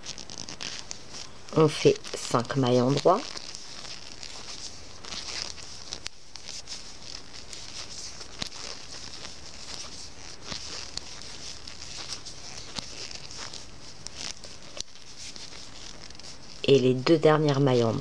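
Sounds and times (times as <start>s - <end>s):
steady hiss: 0.0s - 18.0s
yarn and fabric rustling: 0.0s - 18.0s.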